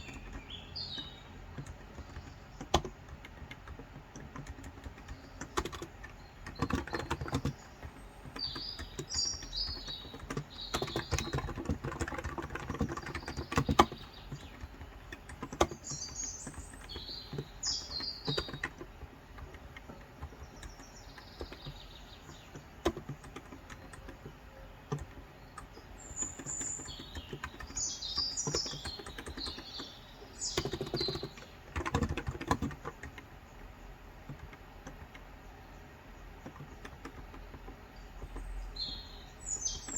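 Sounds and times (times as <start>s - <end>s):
keyboard typing: 0.0s - 35.4s, 36.3s - 39.9s
birds chirping: 0.0s - 39.9s.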